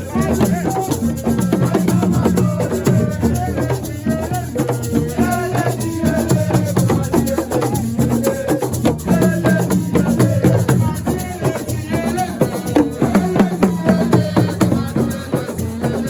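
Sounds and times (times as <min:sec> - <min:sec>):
drums playing: 0:00.0 - 0:16.0
person singing: 0:00.0 - 0:16.0
shaken rattles: 0:00.0 - 0:16.0.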